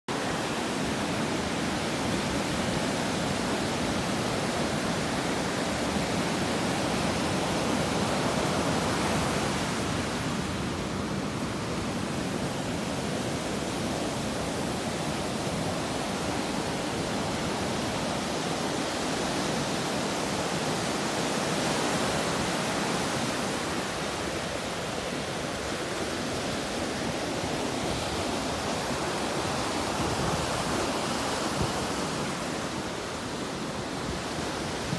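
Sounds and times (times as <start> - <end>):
waves breaking on beach: 0.1 - 34.9.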